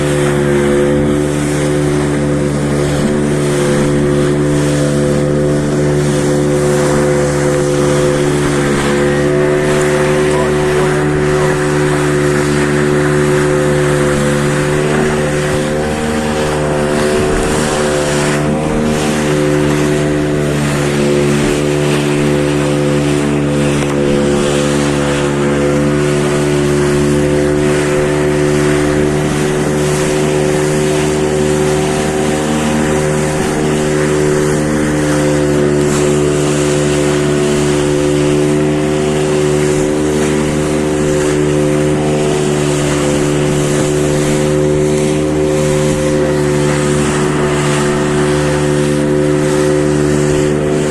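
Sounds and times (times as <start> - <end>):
boat engine running: 0.0 - 50.9
water rushing: 0.0 - 50.9
wind: 0.0 - 50.9.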